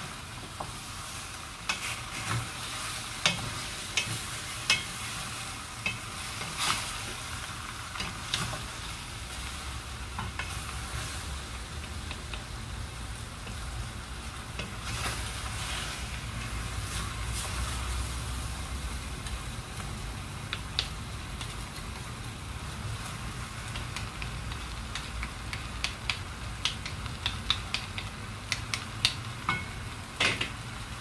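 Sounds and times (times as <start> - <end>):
food sizzling in a pot: 0.0 - 31.0.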